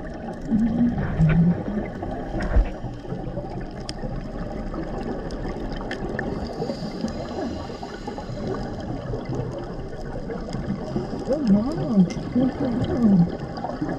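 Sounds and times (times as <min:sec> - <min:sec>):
low rush of water underwater: 0:00.0 - 0:13.9.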